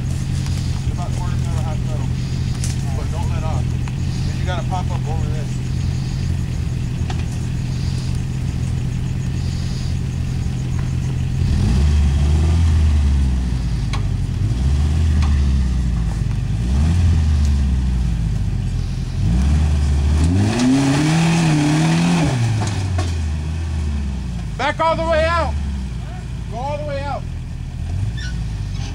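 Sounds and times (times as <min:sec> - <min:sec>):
pickup engine idling and revving: 0:00.0 - 0:28.9.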